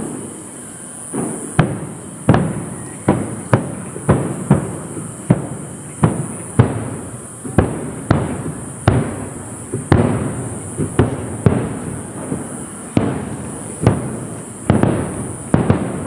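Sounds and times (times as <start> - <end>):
distant firework booms: 1.1 - 16.0.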